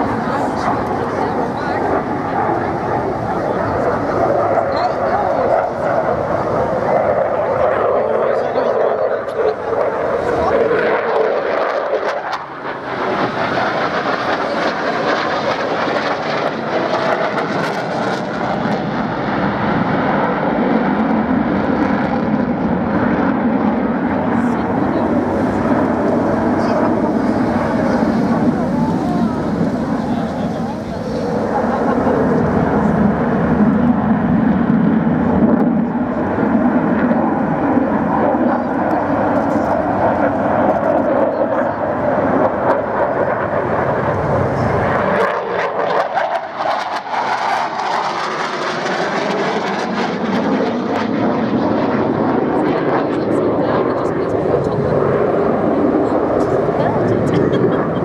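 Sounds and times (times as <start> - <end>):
fighter jet roaring overhead: 0.0 - 58.0.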